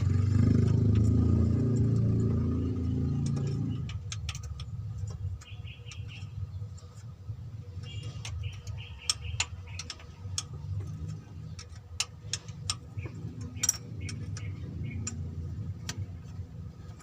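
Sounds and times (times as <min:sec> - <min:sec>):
tools and metal parts clicking: 0:00.0 - 0:17.0.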